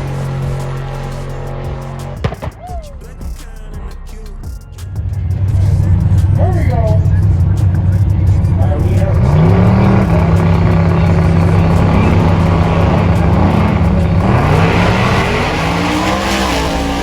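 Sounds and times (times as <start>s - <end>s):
truck engine running at high revs: 0.0s - 17.0s.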